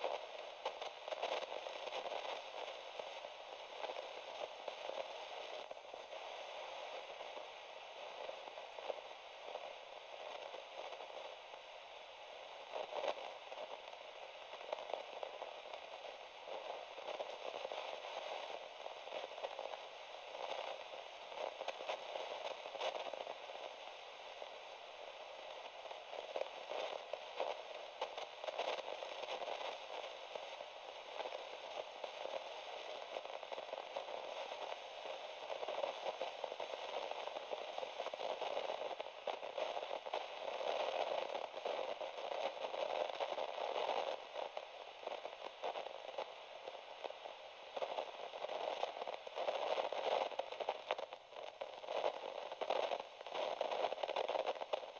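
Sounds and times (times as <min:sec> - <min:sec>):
crackling static: 0:00.0 - 0:54.9.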